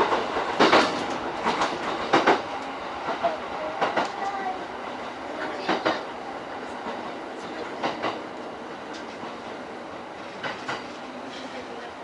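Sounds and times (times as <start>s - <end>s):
train rolling noise: 0.0s - 12.0s.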